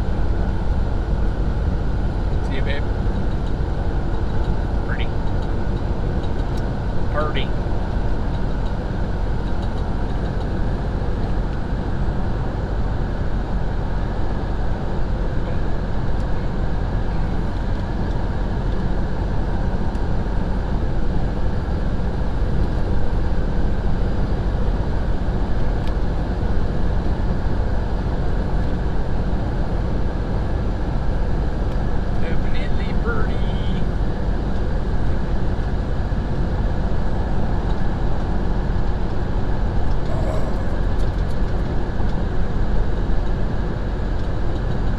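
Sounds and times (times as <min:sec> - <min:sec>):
truck engine drone: 0:00.0 - 0:42.8
road and tyre noise: 0:00.0 - 0:44.9.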